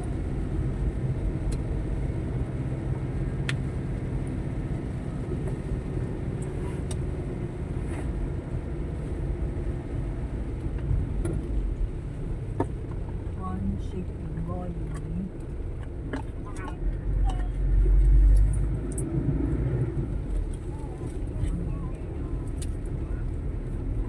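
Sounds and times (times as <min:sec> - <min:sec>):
engine running with low rumble: 0:00.0 - 0:24.0.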